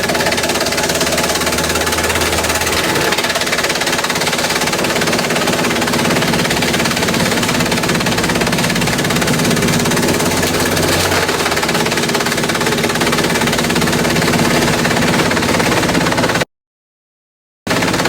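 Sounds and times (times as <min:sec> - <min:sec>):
machine drone: 0:00.0 - 0:16.4
rapid clatter: 0:00.0 - 0:16.4, 0:17.7 - 0:18.0.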